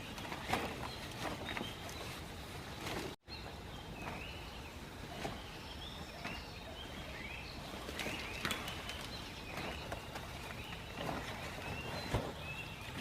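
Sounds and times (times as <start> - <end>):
forest ambience: 0.0 - 13.0
forest birds chirping: 0.0 - 13.0.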